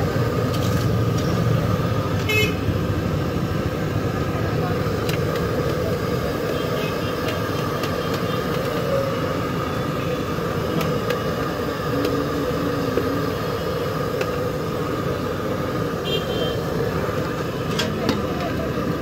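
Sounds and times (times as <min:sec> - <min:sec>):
passing traffic: 0:00.0 - 0:19.0.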